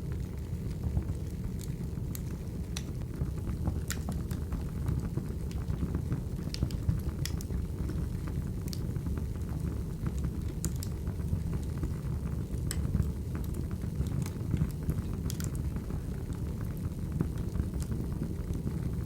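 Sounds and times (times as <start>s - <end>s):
fire crackles and pops: 0.0s - 19.0s
low rumble of flames: 0.0s - 19.0s.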